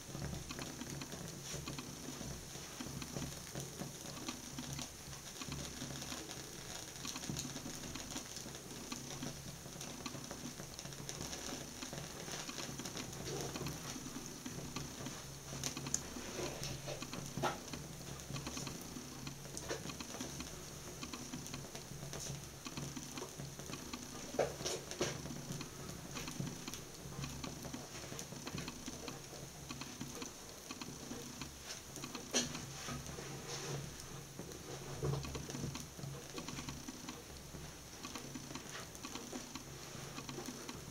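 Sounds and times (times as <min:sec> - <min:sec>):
flames crackling and popping: 0:00.0 - 0:40.9.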